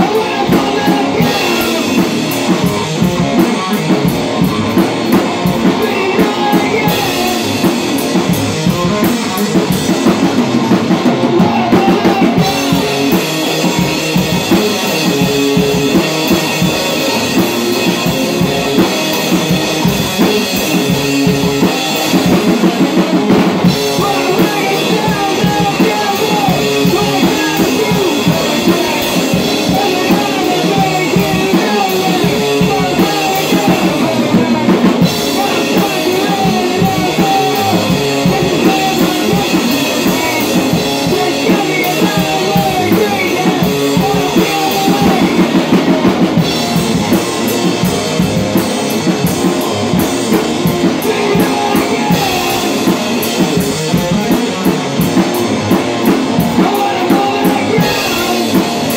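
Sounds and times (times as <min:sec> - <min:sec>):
drum kit drumming: 0:00.0 - 0:58.9
electric guitar playing rock: 0:00.0 - 0:58.9.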